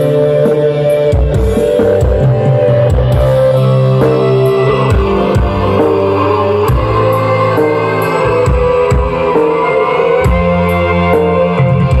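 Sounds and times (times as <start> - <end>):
loud music with bass and drums: 0.0 - 12.0.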